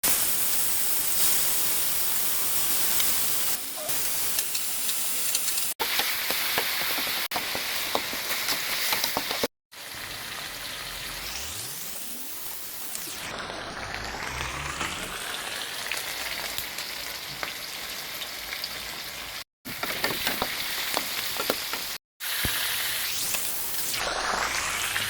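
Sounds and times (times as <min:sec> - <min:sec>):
oil crackling and popping: 0:00.0 - 0:09.5, 0:13.6 - 0:25.0
pork sizzling in hot oil: 0:00.0 - 0:25.0.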